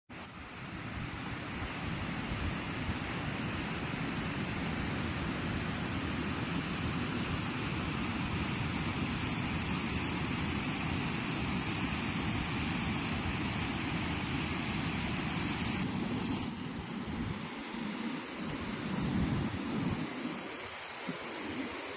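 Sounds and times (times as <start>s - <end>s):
waterfall roaring: 0.4s - 21.9s.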